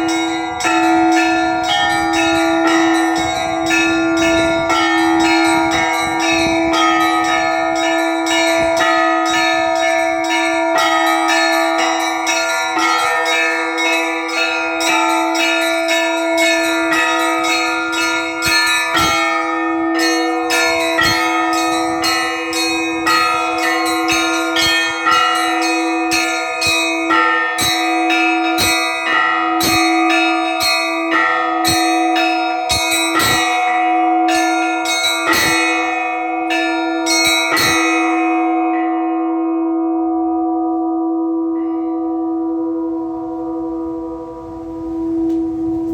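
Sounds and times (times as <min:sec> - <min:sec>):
church bells pealing: 0:00.0 - 0:45.9.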